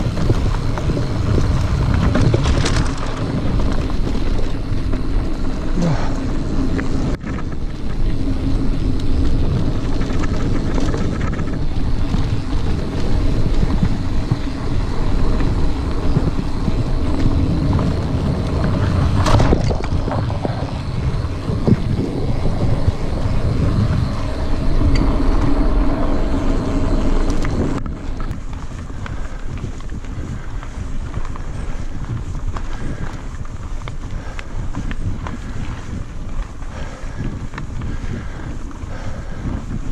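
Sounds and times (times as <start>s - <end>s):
bike tyres rumbling on dirt: 0.0s - 39.9s
wind buffeting microphone: 0.0s - 39.9s.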